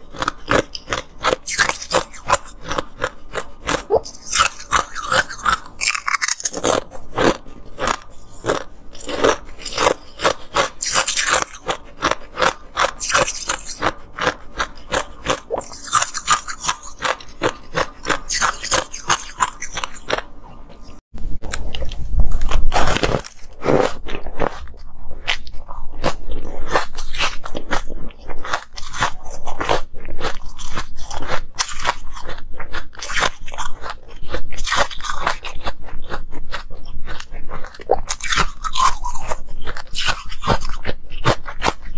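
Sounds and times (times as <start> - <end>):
ice crunching in mouth: 0.0 - 41.9.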